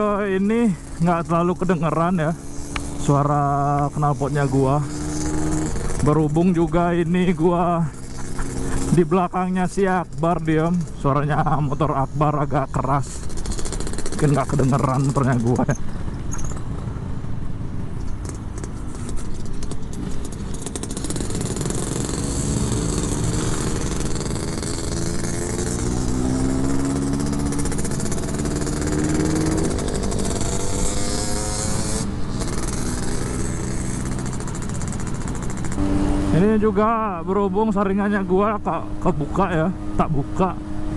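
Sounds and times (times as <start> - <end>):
motorcycle engines revving: 0.0 - 40.9
two-stroke motorcycle exhaust: 0.0 - 40.9.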